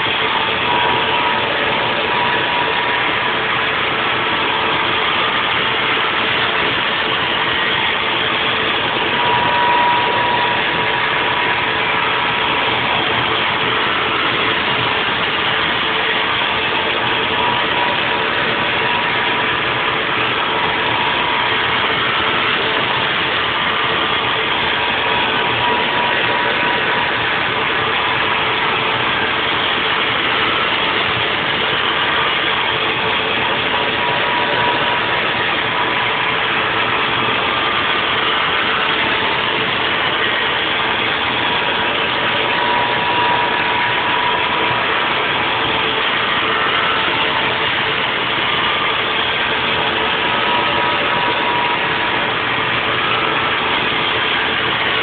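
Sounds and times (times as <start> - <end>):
faint machine whine: 0.0 - 55.0
milling machine cutting: 0.0 - 55.0.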